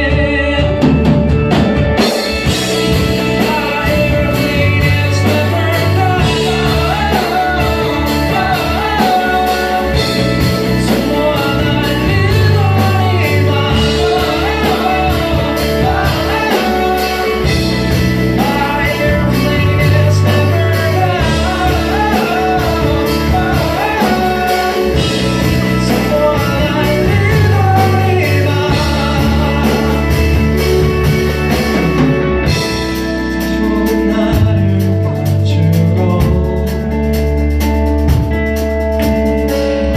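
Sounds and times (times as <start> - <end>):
person singing: 0.0 - 37.5
bass guitar: 0.0 - 39.9
drums: 0.0 - 39.9
electric guitar: 0.0 - 39.9.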